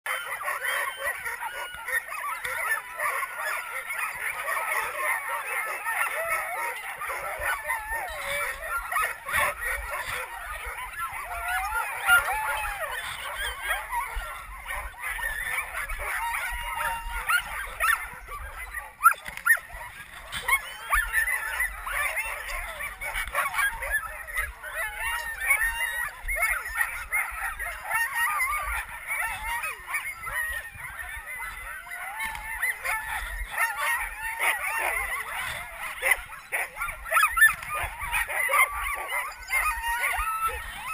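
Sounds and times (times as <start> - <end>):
sled dogs barking and howling: 0.0 - 40.9.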